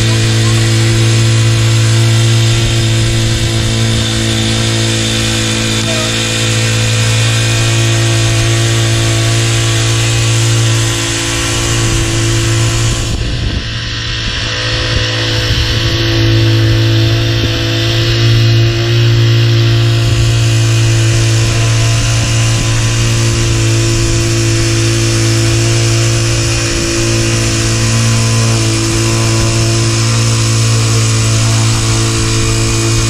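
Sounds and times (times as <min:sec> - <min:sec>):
small gas engine running: 0:00.0 - 0:33.0.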